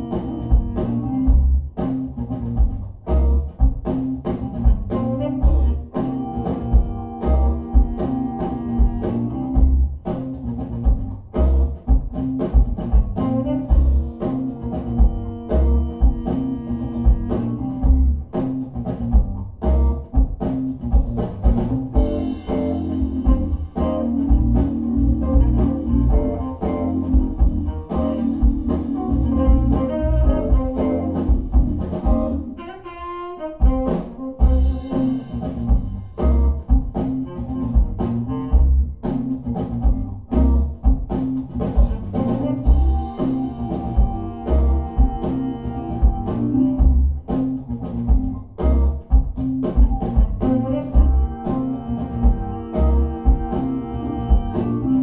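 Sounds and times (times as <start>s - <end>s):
background music with beat: 0.0s - 32.6s, 33.4s - 55.0s
deep bass line: 0.0s - 32.6s, 34.4s - 55.0s.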